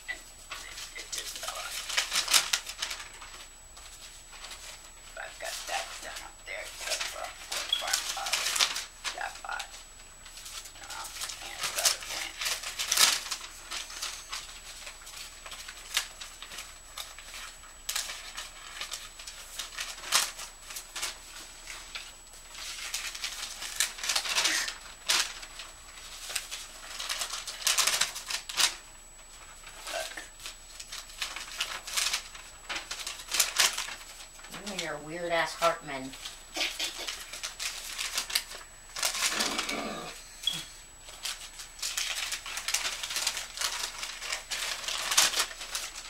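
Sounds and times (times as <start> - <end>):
paper rustling and shuffling: 0.0 - 39.9, 40.5 - 46.0.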